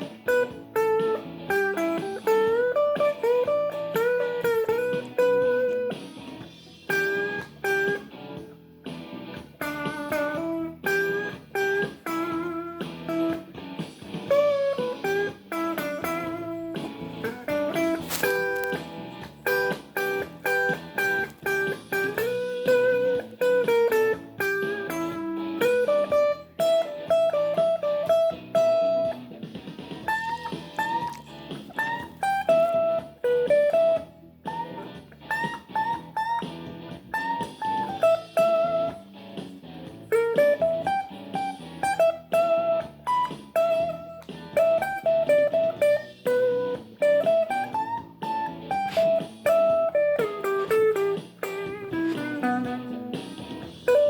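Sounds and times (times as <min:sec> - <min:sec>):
blues guitar lead: 0:00.0 - 0:54.0.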